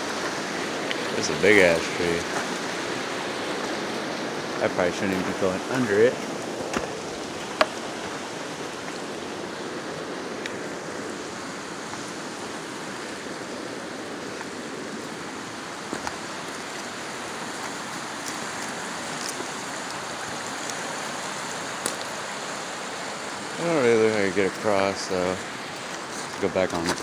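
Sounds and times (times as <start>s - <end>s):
creek flowing over stones: 0.0s - 27.0s.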